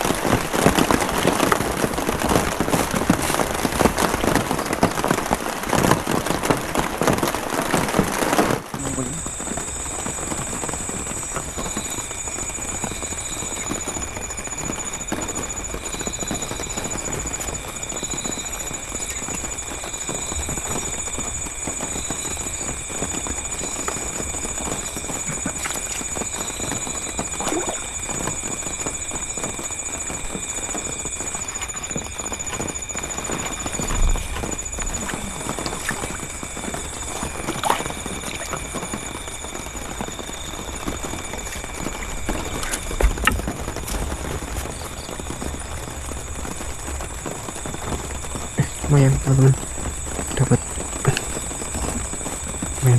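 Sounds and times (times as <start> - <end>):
high-pitched insect trills: 0.0 - 52.9
insect fast pulsing buzz: 0.0 - 52.9
steady rain falling: 0.0 - 52.9.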